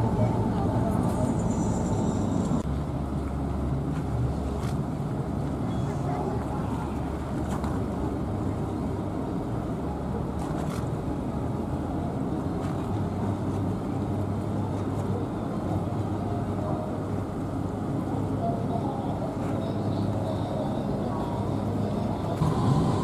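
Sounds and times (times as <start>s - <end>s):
ship engines rumbling: 0.0s - 23.0s.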